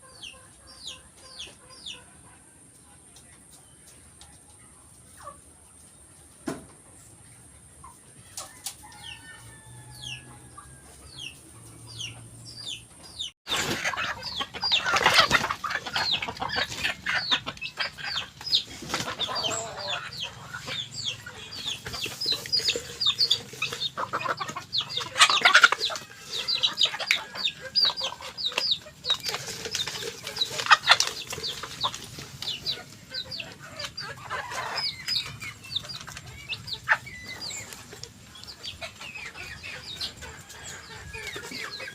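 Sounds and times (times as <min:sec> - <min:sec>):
chickens calling: 0:00.0 - 0:41.9.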